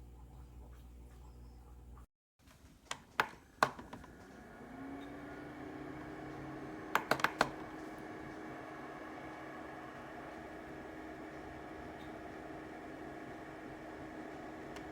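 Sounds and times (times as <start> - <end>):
dehumidifier fan humming: 2.7 - 14.9.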